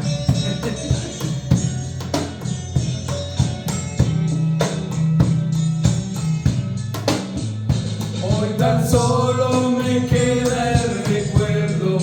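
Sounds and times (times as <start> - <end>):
cajon struck in steady rhythm: 0.0 - 12.0
held bass notes: 0.0 - 12.0.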